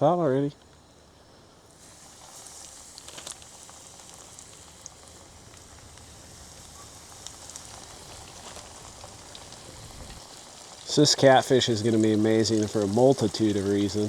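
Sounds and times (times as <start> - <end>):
fish frying in grease: 0.0 - 14.0
grease popping and crackling: 0.5 - 14.0.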